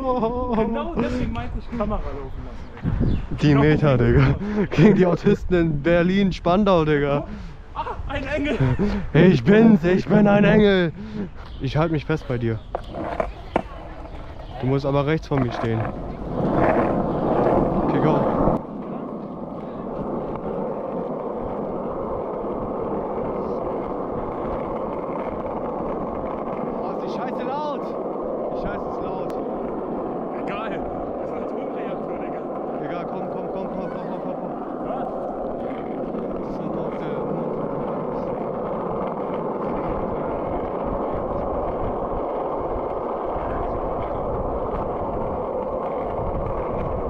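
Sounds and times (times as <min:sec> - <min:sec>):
bicycle tyre and road noise: 0:00.0 - 0:47.0
wind on microphone: 0:00.0 - 0:47.0.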